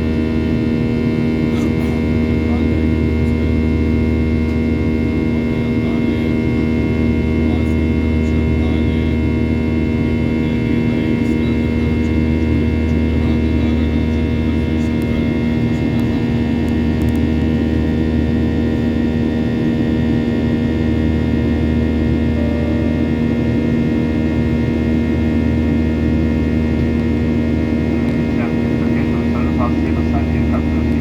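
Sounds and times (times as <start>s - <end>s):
jet engine drone in cabin: 0.0s - 31.0s.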